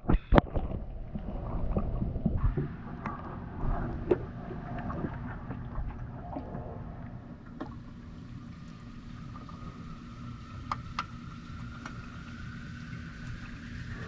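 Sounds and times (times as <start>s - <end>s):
low rumble of pond water: 0.0s - 14.0s.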